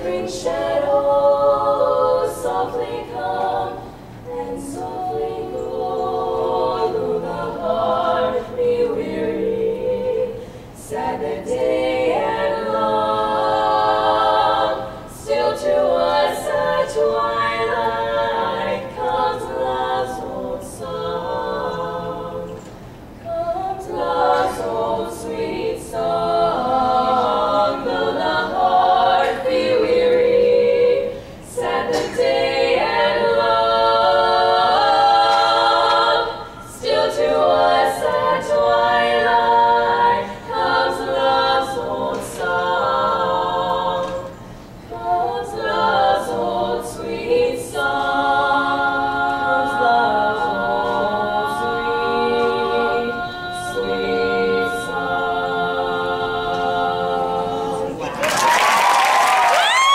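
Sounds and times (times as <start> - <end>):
women singing in harmony: 0.0 - 59.9.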